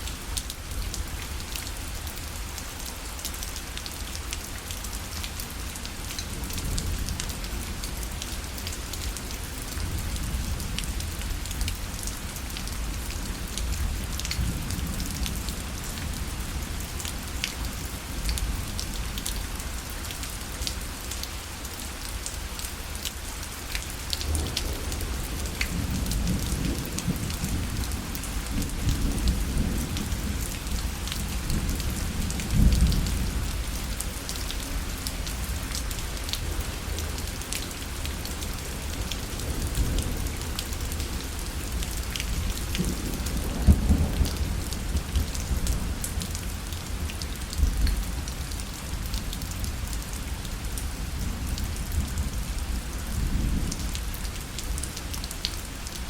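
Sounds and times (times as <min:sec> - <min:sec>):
rain on a fabric parasol: 0:00.0 - 0:56.0.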